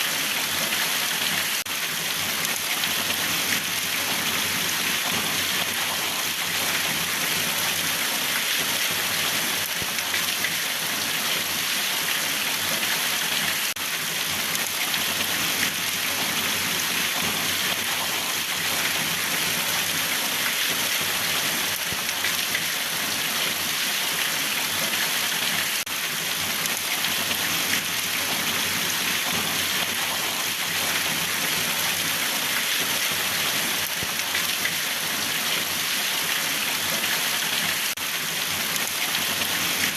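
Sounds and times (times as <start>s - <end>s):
rain pattering on a surface: 0.2s - 39.9s.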